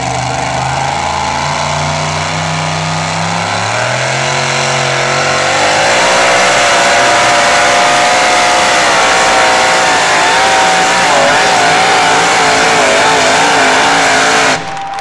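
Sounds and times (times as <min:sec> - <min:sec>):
truck engine revving high: 0:00.0 - 0:15.0.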